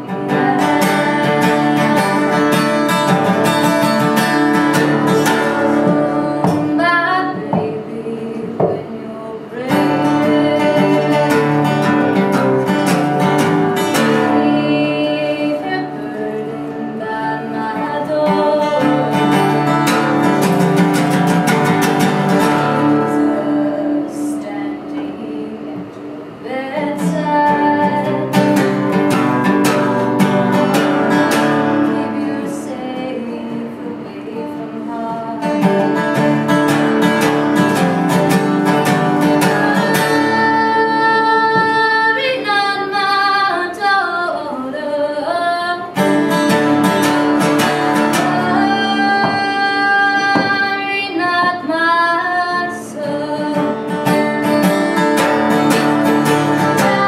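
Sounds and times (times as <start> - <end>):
strummed acoustic guitar: 0.0 - 57.0
woman singing: 0.0 - 57.0.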